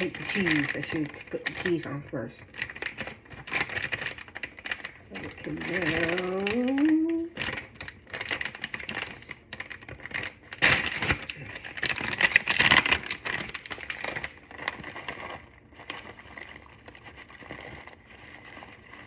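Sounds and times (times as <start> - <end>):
cheese crackling and rustling: 0.0 - 19.0.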